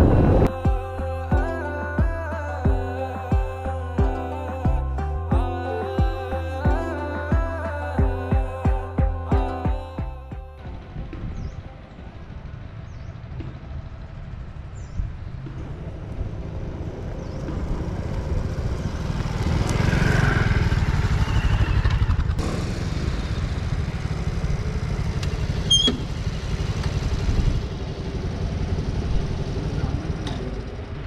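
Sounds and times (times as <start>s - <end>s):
vehicle engine and road rumble: 0.0s - 31.0s.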